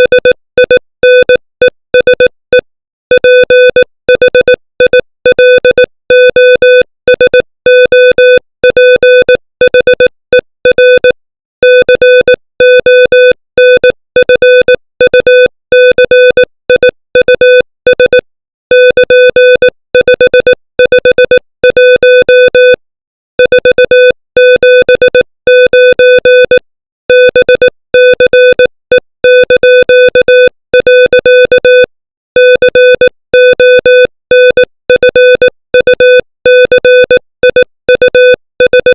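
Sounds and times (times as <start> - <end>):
morse code beeps: 0.0 - 22.8, 23.4 - 38.9.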